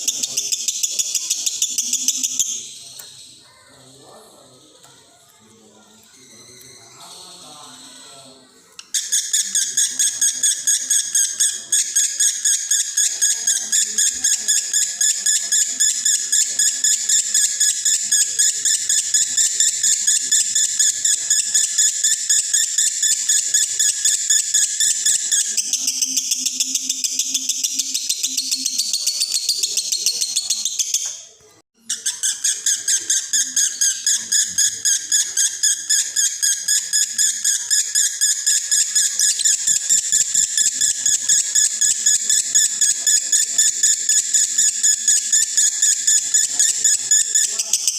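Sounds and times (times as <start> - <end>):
bird high-pitched chattering song: 0.0 - 3.9, 8.8 - 47.9.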